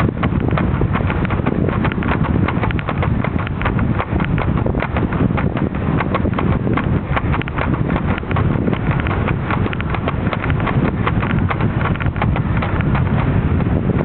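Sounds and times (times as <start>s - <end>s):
bike rattling over pavement: 0.0s - 14.0s
rumble of tyres and wind: 0.0s - 14.0s.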